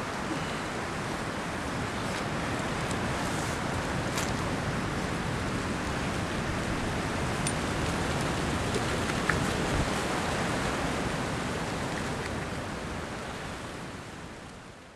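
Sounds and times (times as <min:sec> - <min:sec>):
wind on microphone: 0:00.0 - 0:13.9.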